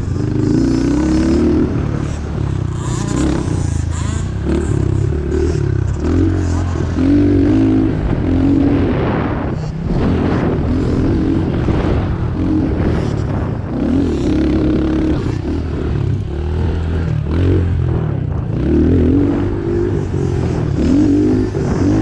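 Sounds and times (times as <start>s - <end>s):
motorcycle engine revving: 0.0s - 22.0s
steady noisy rush: 0.0s - 22.0s.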